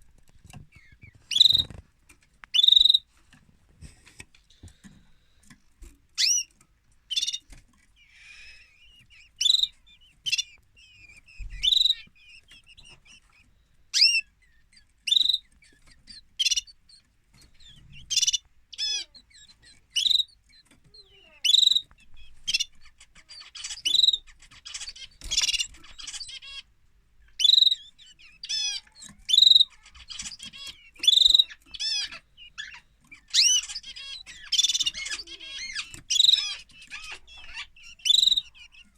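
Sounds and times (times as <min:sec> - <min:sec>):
canary chirping: 0:00.0 - 0:03.3, 0:04.0 - 0:38.9.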